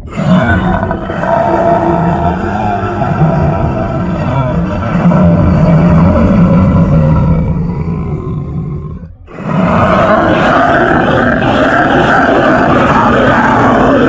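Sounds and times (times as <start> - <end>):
alien creature sound effects: 0.0 - 14.0
wavering creature roar: 0.0 - 14.0.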